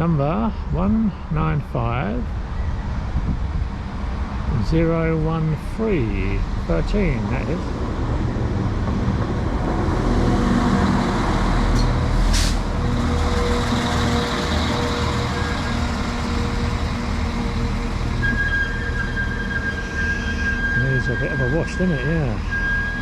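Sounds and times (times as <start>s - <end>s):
train engine hum: 0.0s - 23.0s
rushing noise: 2.2s - 23.0s.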